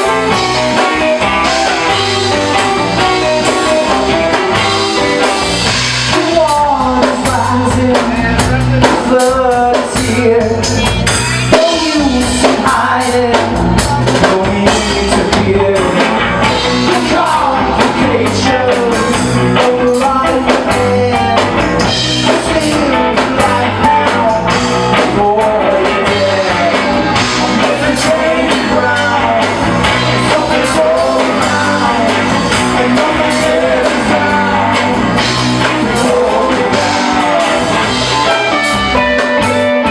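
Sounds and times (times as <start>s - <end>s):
person singing: 0.0s - 39.9s
rock band playing loudly: 0.0s - 39.9s.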